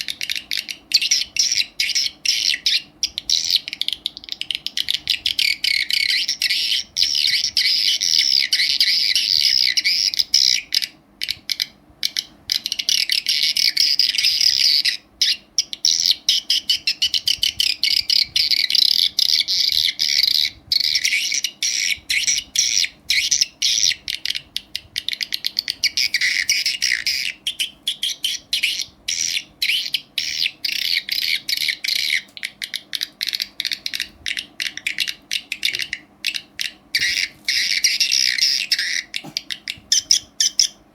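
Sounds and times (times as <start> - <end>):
bird chirps through speaker: 0.0 - 10.9, 11.6 - 40.8.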